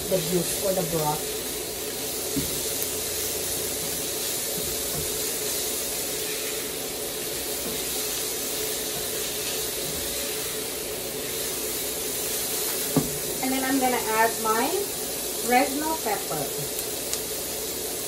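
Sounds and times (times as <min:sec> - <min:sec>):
meat and onion sizzling in oil: 0:00.0 - 0:18.0.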